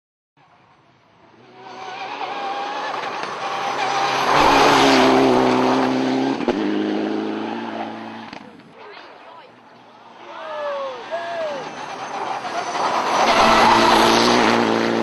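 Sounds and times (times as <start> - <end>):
rally car engine passing: 0.4 - 15.0.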